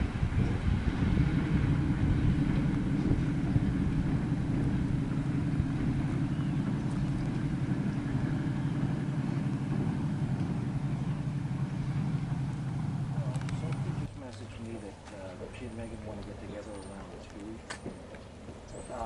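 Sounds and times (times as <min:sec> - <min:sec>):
diesel locomotive engine rumbling: 0:00.0 - 0:19.0.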